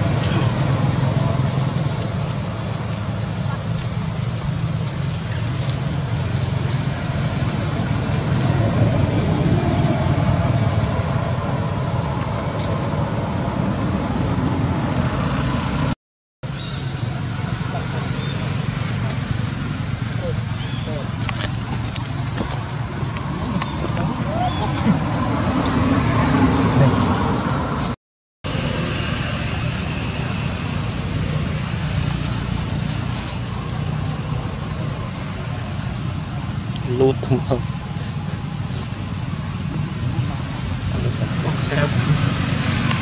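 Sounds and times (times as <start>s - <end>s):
low outdoor rumble: 0.0s - 15.9s, 16.5s - 43.0s.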